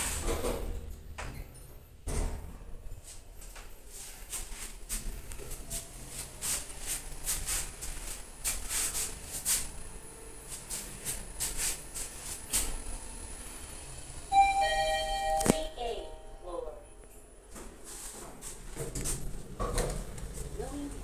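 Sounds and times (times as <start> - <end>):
elevator low hum: 0.0 - 21.0.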